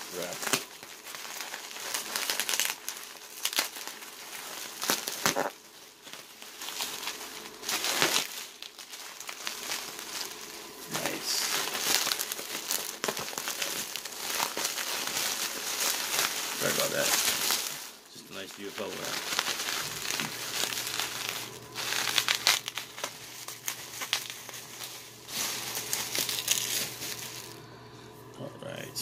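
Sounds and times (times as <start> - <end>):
bubble wrap crinkling: 0.0 - 27.9.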